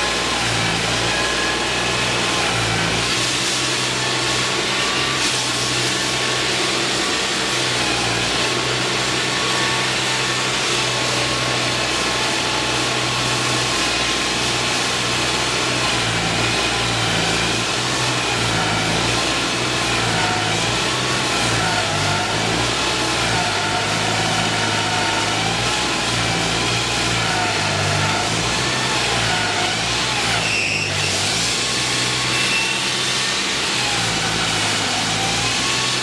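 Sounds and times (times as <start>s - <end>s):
loud mechanical engine noise: 0.0s - 36.0s.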